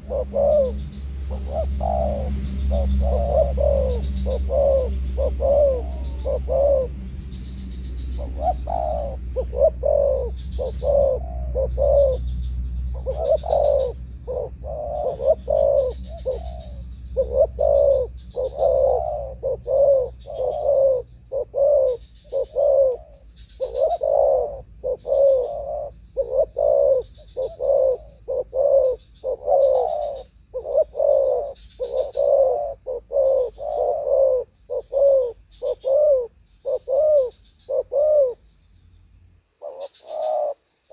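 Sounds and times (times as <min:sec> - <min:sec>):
doves cooing: 0:00.0 - 0:38.4, 0:39.5 - 0:40.9.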